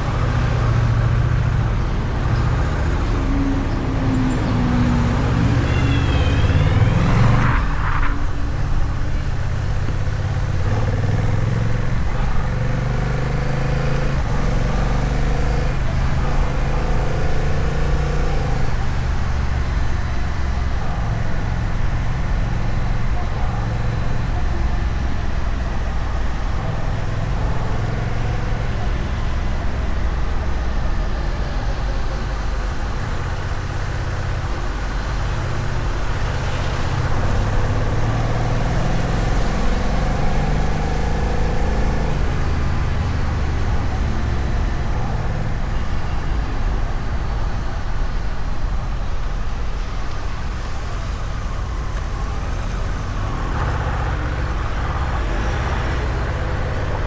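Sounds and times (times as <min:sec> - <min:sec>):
motorcycle engine cruising: 0:00.0 - 0:57.0
road noise: 0:00.0 - 0:57.0.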